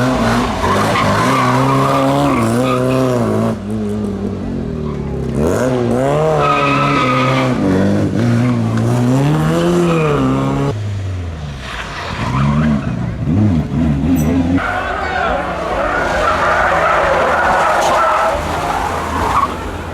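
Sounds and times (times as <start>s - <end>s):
rally car engine revving: 0.0s - 19.9s.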